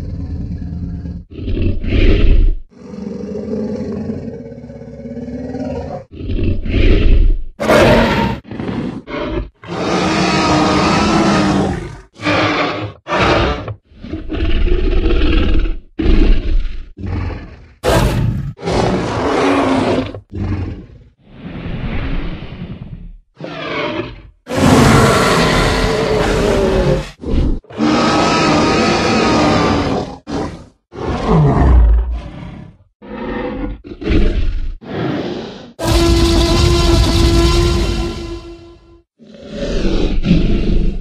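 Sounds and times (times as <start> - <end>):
dinosaur roaring and growling: 0.0 - 41.0.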